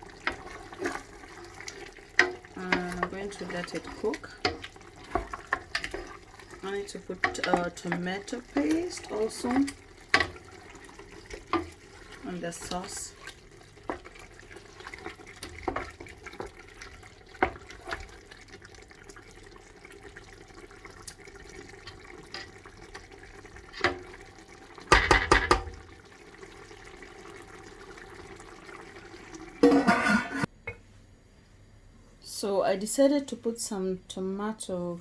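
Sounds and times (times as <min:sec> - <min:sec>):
soft watery noise: 0:00.0 - 0:32.5.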